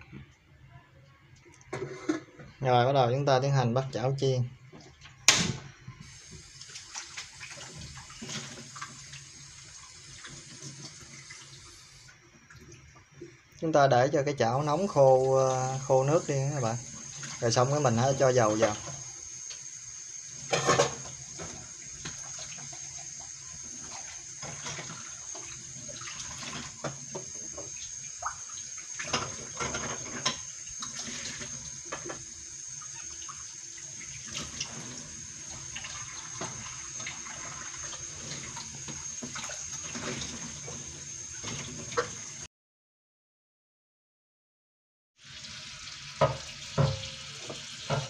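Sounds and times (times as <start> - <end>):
water sizzling on hot pan: 5.6 - 42.5, 45.2 - 48.0.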